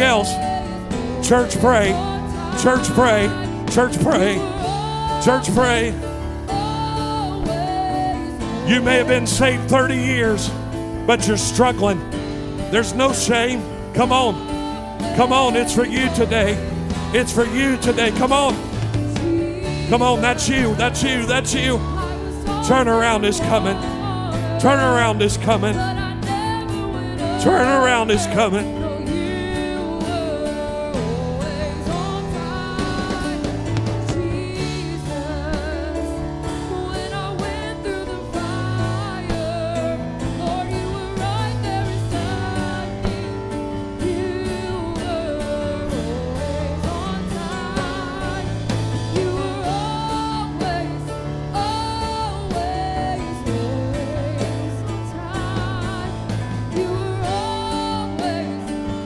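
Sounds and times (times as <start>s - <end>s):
gospel instrumental backing: 0.0s - 59.0s
person singing with vibrato: 0.0s - 59.0s.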